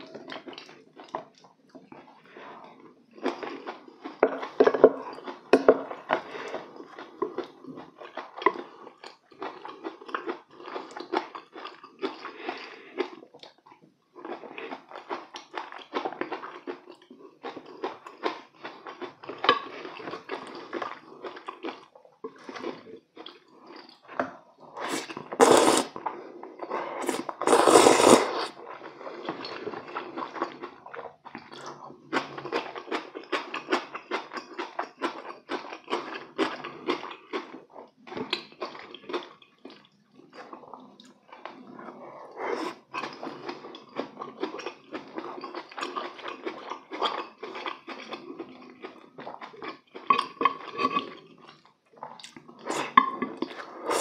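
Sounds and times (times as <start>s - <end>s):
man chewing and eating: 0.0s - 54.0s.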